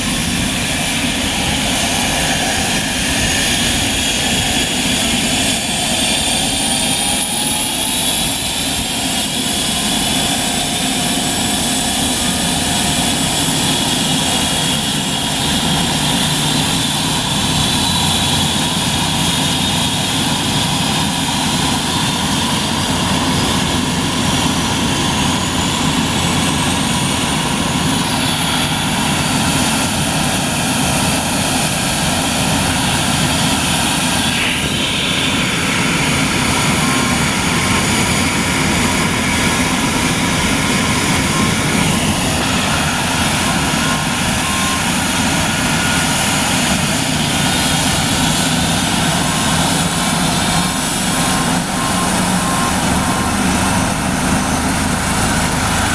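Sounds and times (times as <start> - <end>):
helicopter turbine and rotor: 0.0 - 55.9
high turbine whine: 0.0 - 55.9.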